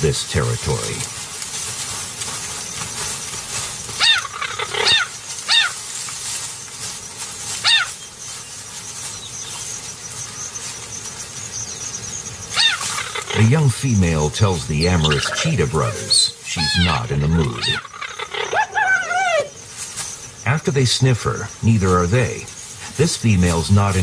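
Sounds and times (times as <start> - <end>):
cheetahs chirping: 0.0 - 24.0.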